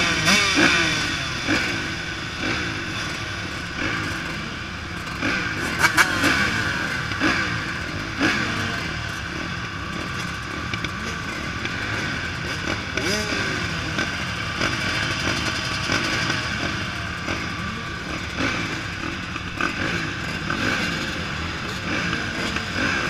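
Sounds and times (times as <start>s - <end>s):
motocross engines revving: 0.0s - 23.0s.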